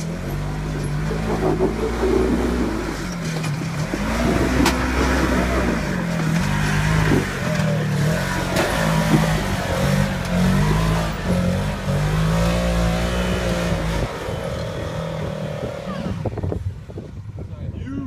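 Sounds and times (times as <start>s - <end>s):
engine revving under load: 0.0s - 17.1s.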